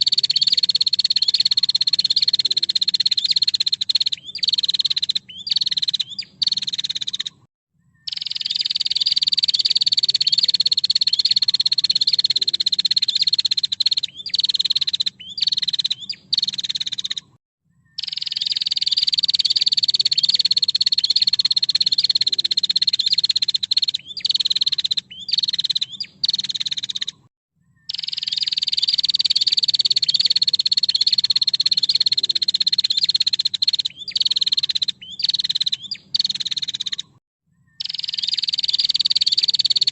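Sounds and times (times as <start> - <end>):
bird chattering calls: 0.0 - 7.4, 8.1 - 17.3, 18.0 - 27.3, 27.9 - 37.1, 37.8 - 39.9
bird trilling: 0.0 - 39.9.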